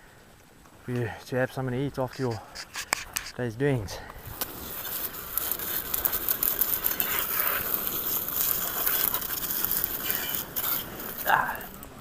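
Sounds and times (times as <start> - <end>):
crackling rustling noise: 0.0 - 12.0.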